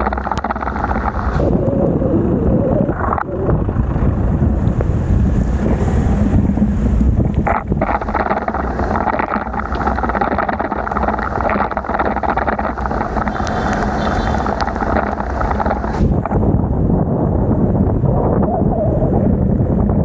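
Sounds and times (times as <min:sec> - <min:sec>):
bicycle tyres on wet road: 0:00.0 - 0:02.4, 0:03.0 - 0:18.0
wind buffeting microphone: 0:00.0 - 0:20.0.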